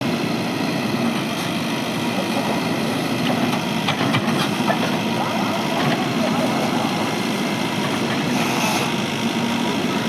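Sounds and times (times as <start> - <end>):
heavy diesel engine running: 0.0 - 10.0.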